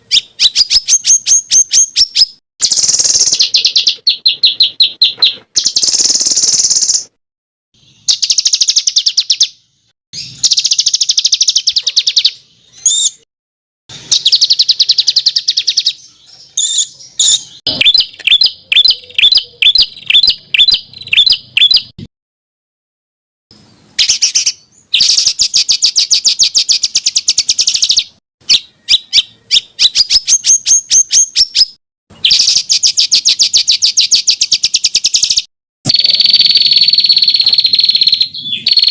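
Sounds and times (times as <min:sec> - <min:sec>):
songbird singing trills: 0:00.0 - 0:07.1, 0:07.8 - 0:13.2, 0:14.0 - 0:22.0, 0:23.6 - 0:38.9.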